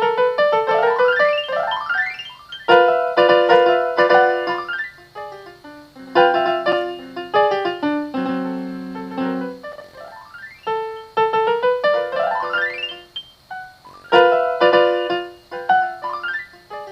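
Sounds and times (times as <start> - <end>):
solo piano chords: 0.0 - 16.9.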